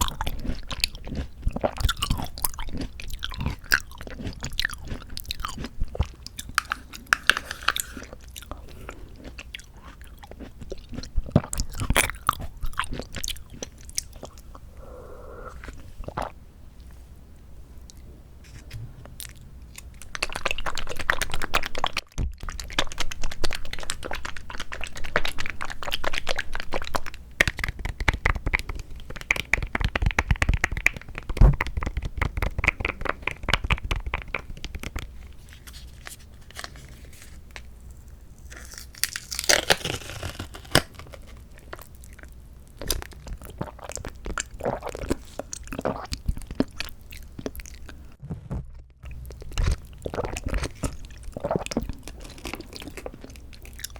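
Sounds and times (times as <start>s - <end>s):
wet chewing and mouth sounds: 0.0s - 16.9s, 19.2s - 36.9s, 38.5s - 48.2s, 49.0s - 53.9s.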